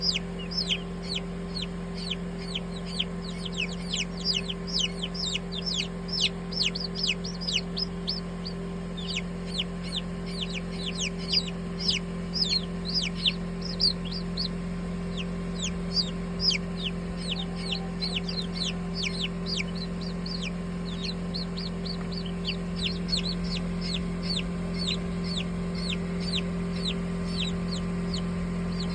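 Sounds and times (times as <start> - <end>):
baby chicks peeping: 0.0 - 28.9
steady low hum: 0.0 - 28.9.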